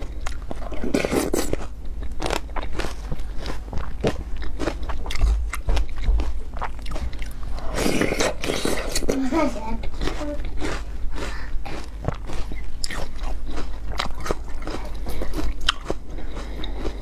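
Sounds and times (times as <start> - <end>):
chewing and lip smacking: 0.0 - 9.2, 9.8 - 17.0.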